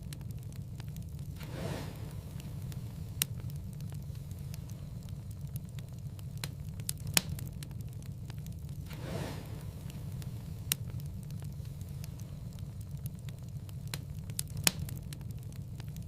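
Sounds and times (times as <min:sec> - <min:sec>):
fire crackling ticks: 0:00.0 - 0:16.0
fire rumbling: 0:00.0 - 0:16.0
rush of flame: 0:00.0 - 0:16.0
sharp pops of fire: 0:00.0 - 0:16.0.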